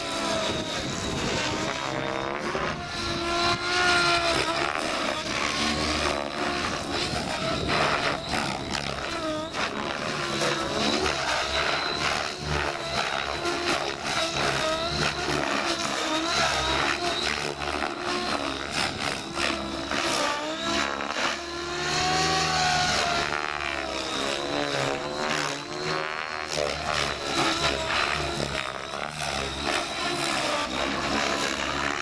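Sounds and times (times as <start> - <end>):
model helicopter rotor and motor: 0.0 - 32.0.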